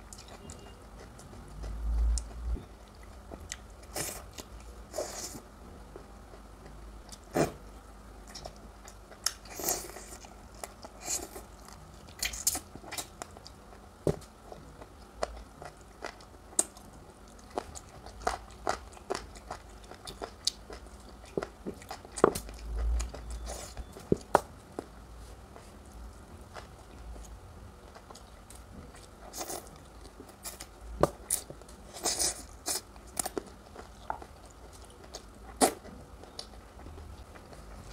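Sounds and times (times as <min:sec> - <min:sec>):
person chewing food: 0:00.0 - 0:05.4, 0:06.3 - 0:25.0, 0:26.4 - 0:37.9.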